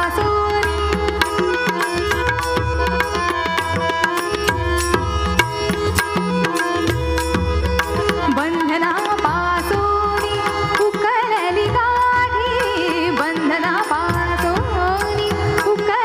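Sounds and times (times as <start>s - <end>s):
tabla strokes: 0.0s - 16.0s.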